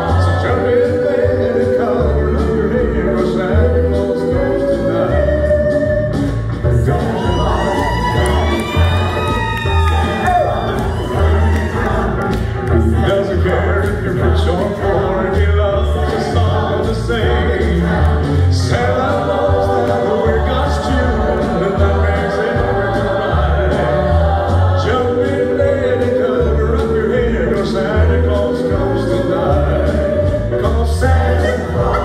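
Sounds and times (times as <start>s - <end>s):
man singing lead: 0.0s - 11.8s, 12.7s - 23.0s, 24.7s - 32.0s
backing singers: 0.0s - 32.0s
band track with steady beat: 0.0s - 32.0s.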